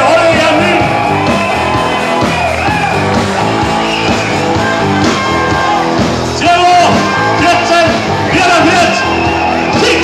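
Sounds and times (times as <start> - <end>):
live band music with singing: 0.0 - 10.0.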